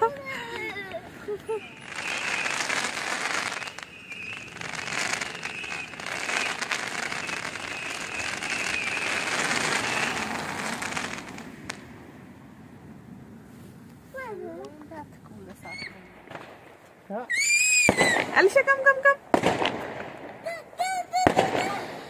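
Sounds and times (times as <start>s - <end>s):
fireworks crackling and popping: 0.0s - 13.0s, 13.6s - 22.0s.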